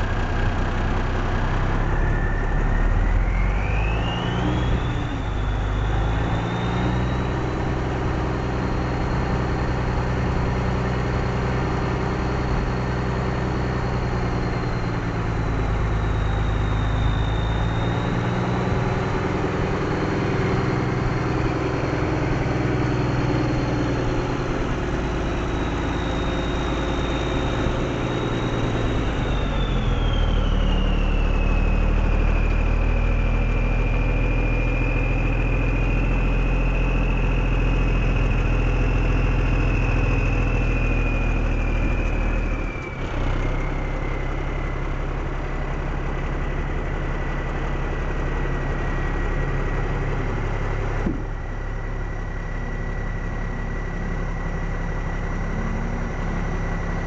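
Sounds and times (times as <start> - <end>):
high whine gliding down: 0.0 - 57.0
truck engine idling: 0.0 - 57.0.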